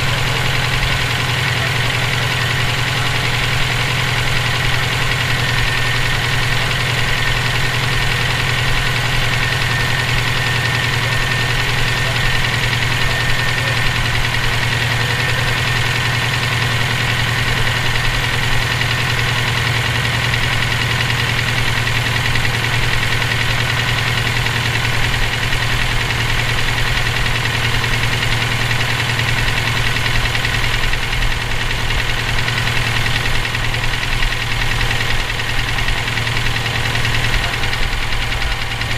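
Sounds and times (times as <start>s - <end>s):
car engine running with knock: 0.0s - 38.9s.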